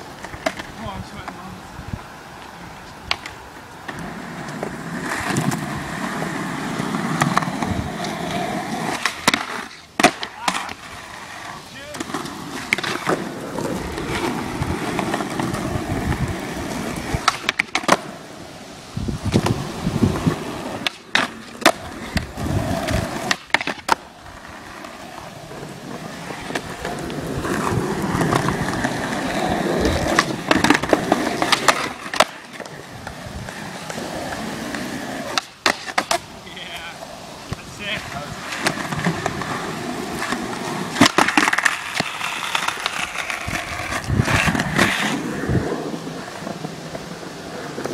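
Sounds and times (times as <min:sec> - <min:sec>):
skateboard clacks: 0:00.0 - 0:01.6, 0:02.9 - 0:18.5, 0:19.2 - 0:47.9
skateboard wheels rolling on concrete: 0:00.0 - 0:47.9
skateboard grinding on ledge: 0:02.9 - 0:47.9.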